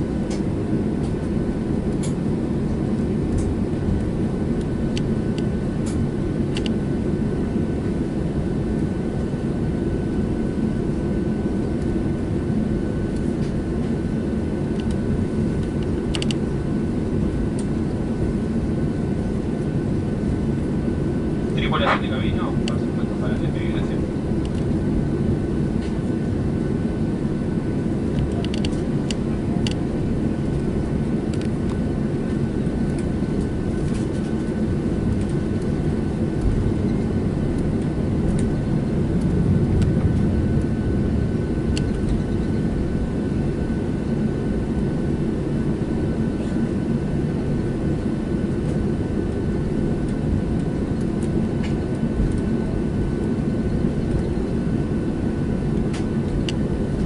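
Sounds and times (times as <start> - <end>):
airplane engines rumbling in cabin: 0.0 - 57.0
faint steady whine: 0.0 - 57.0.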